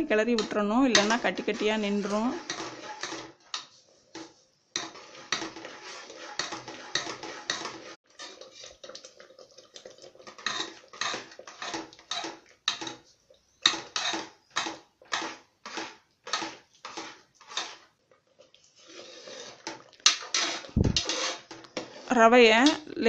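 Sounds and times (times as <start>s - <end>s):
ladle scraping pot: 0.0s - 23.0s.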